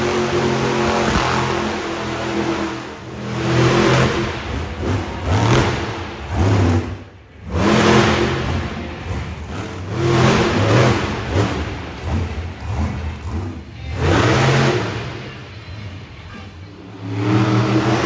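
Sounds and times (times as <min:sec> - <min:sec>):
truck engine revving hard: 0:00.0 - 0:15.3, 0:16.9 - 0:18.0.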